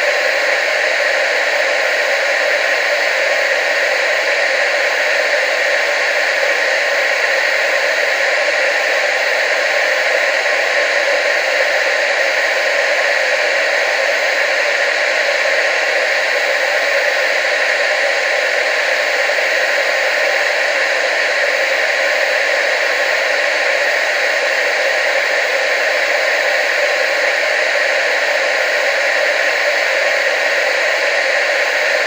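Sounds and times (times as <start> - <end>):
tv static hiss: 0.0 - 32.0.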